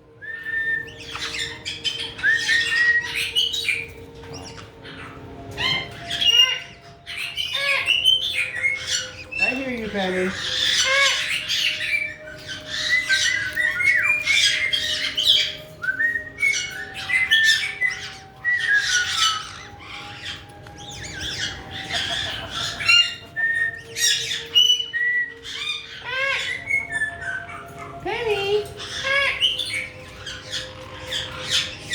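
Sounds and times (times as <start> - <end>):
parrots squawking and chirping: 0.0 - 31.9.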